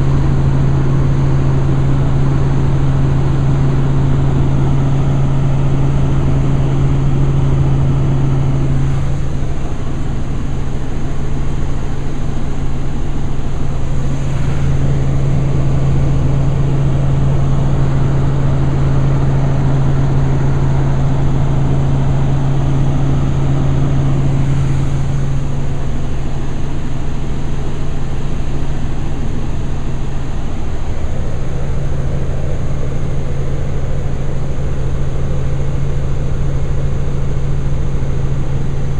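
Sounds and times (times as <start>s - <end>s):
helicopter drone: 0.0s - 38.9s.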